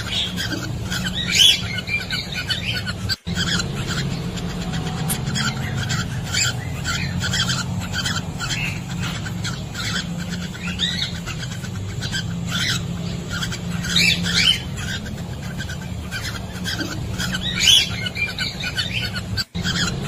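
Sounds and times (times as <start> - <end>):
cockatiels chirping and squawking: 0.0 - 20.0
steady low hum: 0.0 - 20.0.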